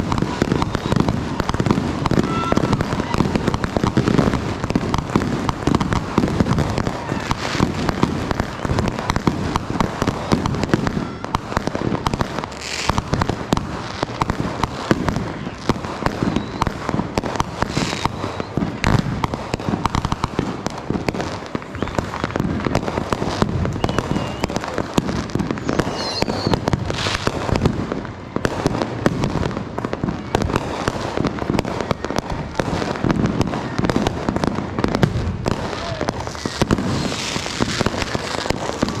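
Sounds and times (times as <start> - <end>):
fireworks crackling and banging: 0.0 - 39.0.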